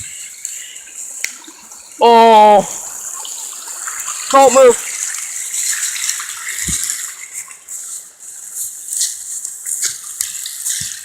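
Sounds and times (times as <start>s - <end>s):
stream water over rocks: 0.0s - 11.0s.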